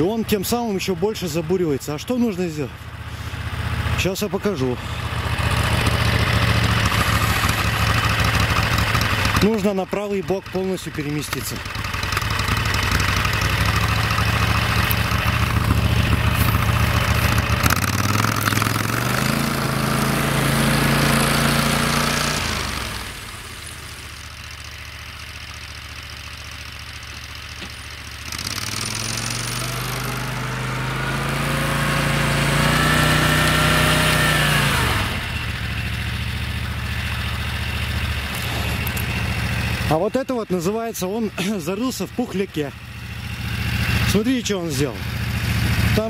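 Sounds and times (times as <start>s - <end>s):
snowmobile engine running: 0.0s - 46.0s.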